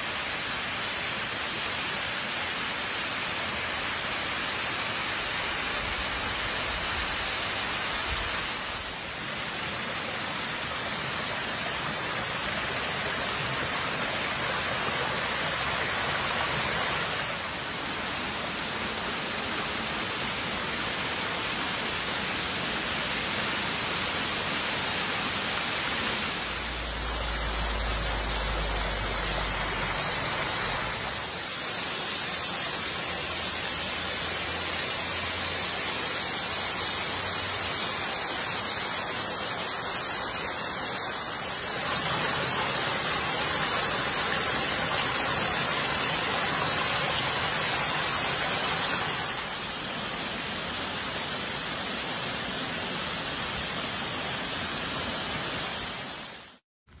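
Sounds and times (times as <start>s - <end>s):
waterfall rushing: 0.0s - 56.6s.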